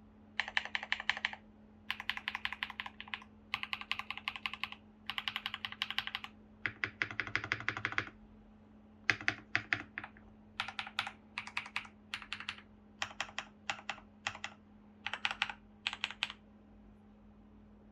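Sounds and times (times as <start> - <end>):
mechanical keyboard typing: 0.4 - 8.2, 9.1 - 16.4.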